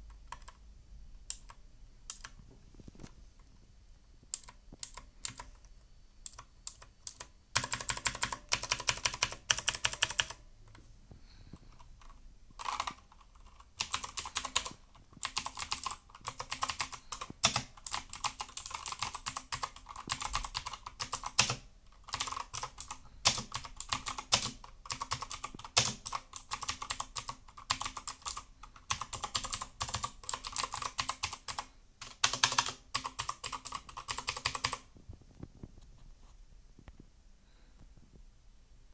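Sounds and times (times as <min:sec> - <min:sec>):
clicky mechanical keyboard typing: 0:00.0 - 0:00.6, 0:01.3 - 0:02.4, 0:04.3 - 0:10.8, 0:11.7 - 0:34.9.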